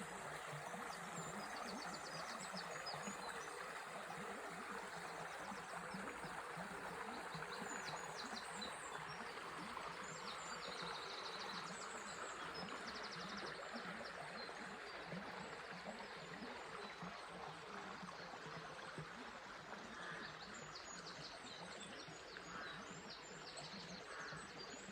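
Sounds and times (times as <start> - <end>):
river flowing: 0.0 - 24.9.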